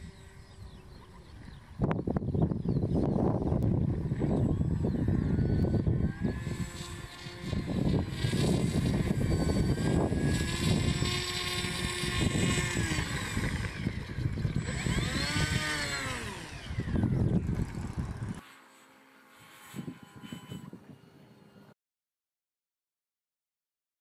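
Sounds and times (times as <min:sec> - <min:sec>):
electric motors and propellers whining: 0:00.0 - 0:21.8.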